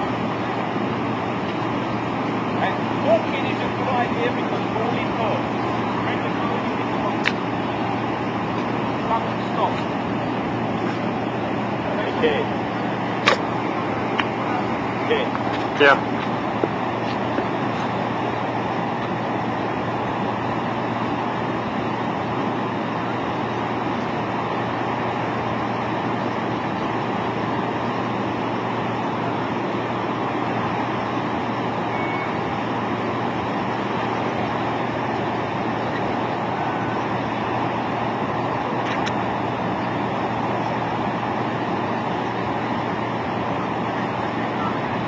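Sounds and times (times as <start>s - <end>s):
vehicle running: 0.0s - 45.0s.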